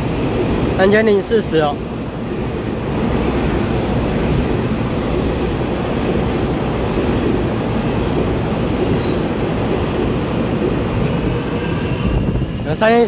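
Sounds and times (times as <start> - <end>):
rushing air: 0.0 - 13.0
train wheels rumbling on rail: 0.0 - 13.0.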